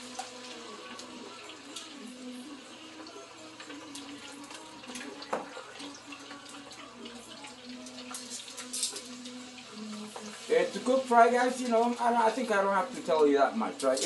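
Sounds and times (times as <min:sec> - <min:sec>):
chips sizzling in hot oil: 0:00.0 - 0:14.0.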